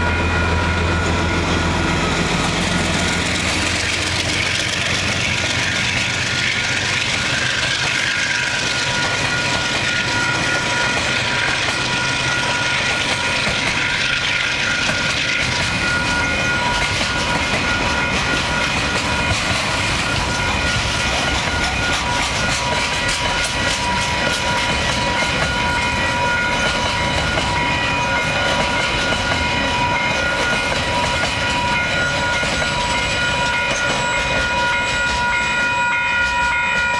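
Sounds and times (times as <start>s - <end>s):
crossing warning bell ringing: 0.0s - 36.9s
train wheels clicking over rail joints: 0.7s - 36.9s.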